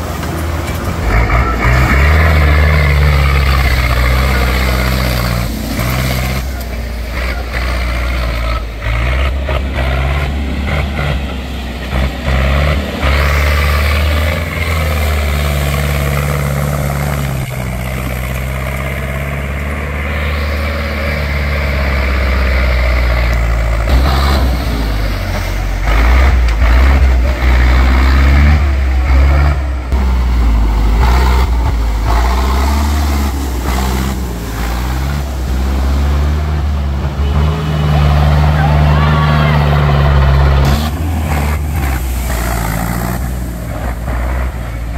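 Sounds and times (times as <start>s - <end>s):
tractor diesel engines under load: 0.0s - 44.9s.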